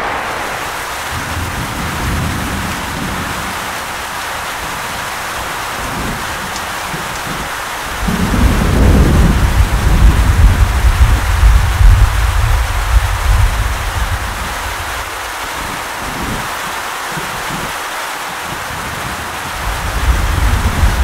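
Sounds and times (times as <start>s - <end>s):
thunder rumbling: 0.0s - 16.4s, 19.5s - 21.0s
rain falling: 0.0s - 21.0s.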